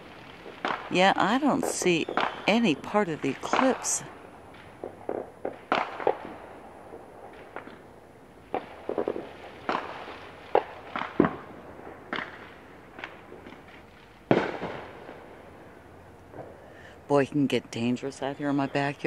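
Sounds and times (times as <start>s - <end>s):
fireworks bangs and pops: 0.0s - 15.6s
firecrackers cracking: 0.0s - 17.7s.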